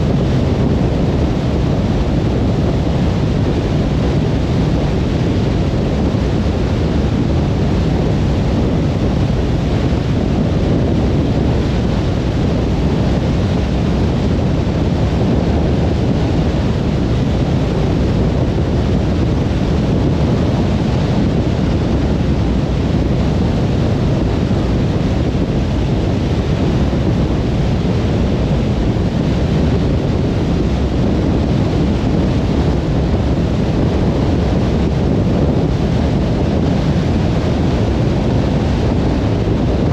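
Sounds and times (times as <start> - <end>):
car road noise on motorway: 0.0 - 39.9.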